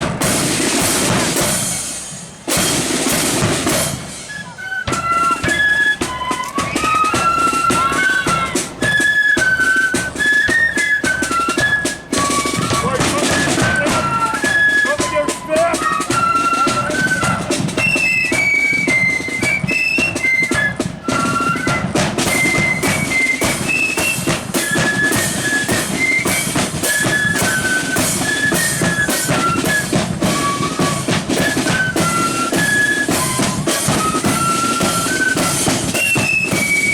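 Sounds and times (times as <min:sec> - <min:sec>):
snare drums: 0:00.0 - 0:36.9
flutes playing high melody: 0:00.3 - 0:36.9.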